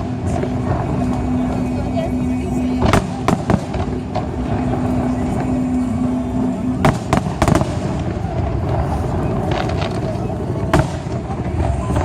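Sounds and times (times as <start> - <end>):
fireworks barrage rumble: 0.0 - 12.0.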